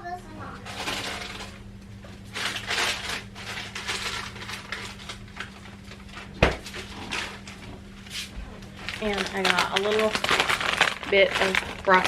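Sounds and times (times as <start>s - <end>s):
steady low hum: 0.0s - 12.0s
plastic packaging rustling: 0.6s - 1.6s, 2.2s - 12.0s.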